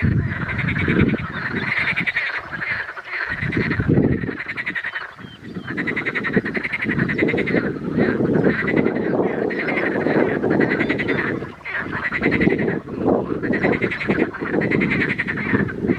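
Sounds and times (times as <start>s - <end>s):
frogs croaking in chorus: 0.0s - 15.9s.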